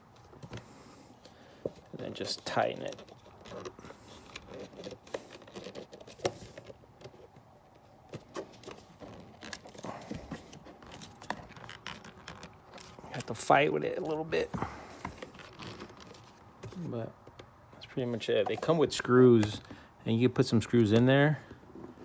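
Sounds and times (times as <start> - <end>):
clicks and knocks of handling: 0.1 - 17.6, 18.2 - 19.8, 20.7 - 22.0.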